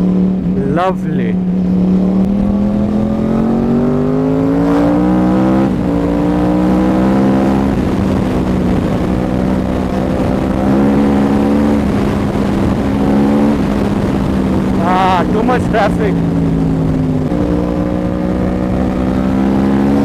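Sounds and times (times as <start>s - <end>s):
motorcycle accelerating hard: 0.0s - 20.0s.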